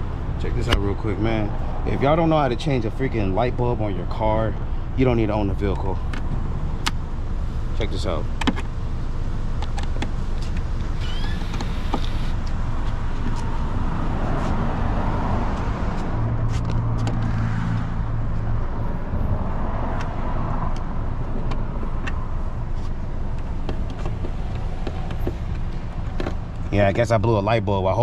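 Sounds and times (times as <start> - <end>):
vehicle rumble: 0.0 - 28.0.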